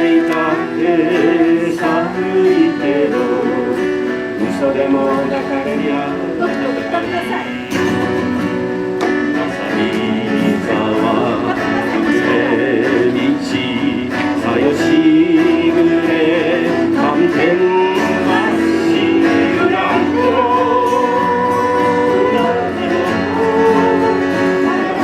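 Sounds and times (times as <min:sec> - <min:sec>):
enka music with strings and guitar: 0:00.0 - 0:25.0
wavering melody line: 0:00.3 - 0:25.0.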